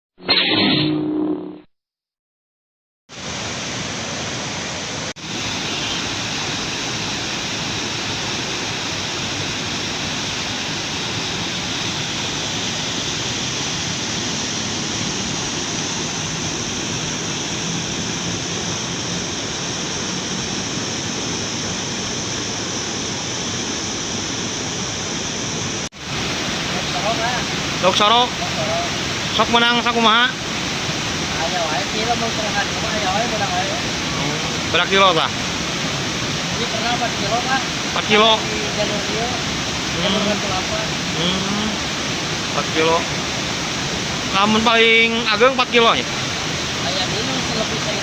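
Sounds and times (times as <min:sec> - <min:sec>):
river water rushing: 0:03.1 - 0:48.0.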